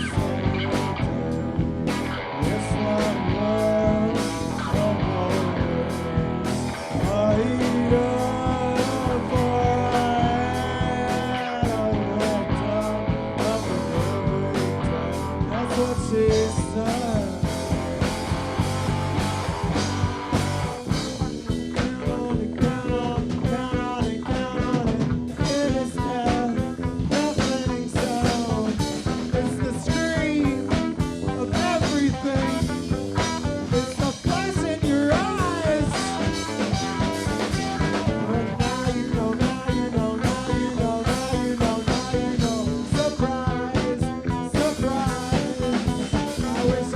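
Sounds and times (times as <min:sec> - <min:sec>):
distorted electric guitars: 0:00.0 - 0:46.9
drum beat: 0:00.0 - 0:46.9.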